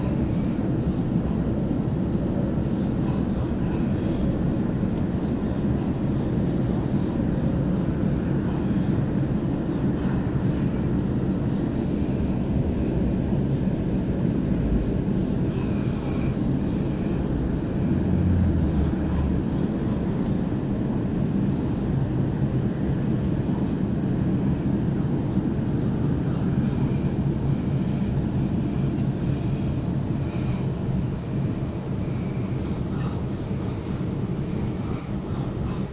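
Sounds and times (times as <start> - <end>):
train rumbling inside passenger car: 0.0 - 35.9.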